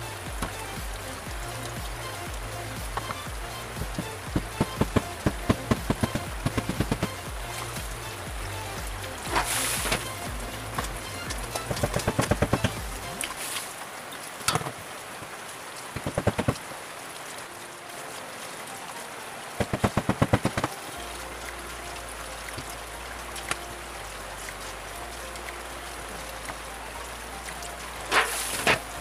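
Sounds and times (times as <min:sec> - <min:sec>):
steady rain-like hiss: 0:00.0 - 0:29.0.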